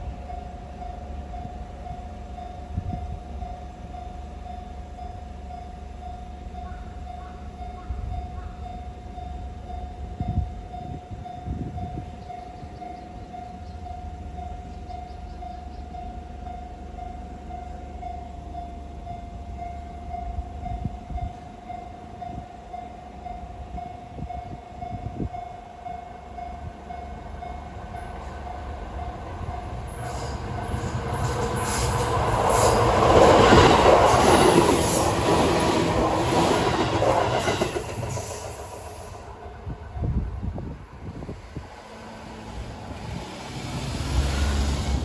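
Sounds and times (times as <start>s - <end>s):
train wheels rumbling: 0.0s - 45.0s.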